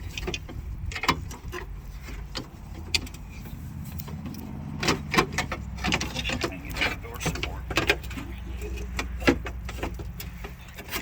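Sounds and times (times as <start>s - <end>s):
wiring harness clicks and rattles: 0.0s - 11.0s.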